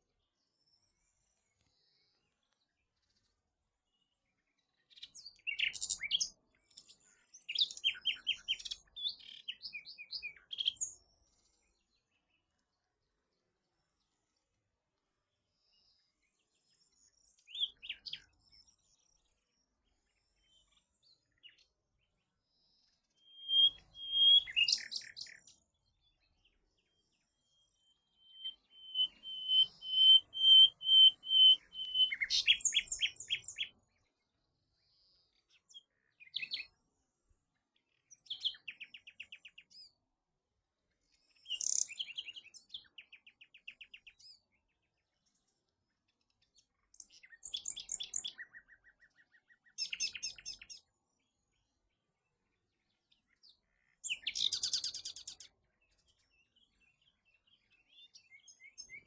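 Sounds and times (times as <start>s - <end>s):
songbird singing: 0.0s - 14.6s, 15.4s - 40.0s, 40.9s - 59.0s.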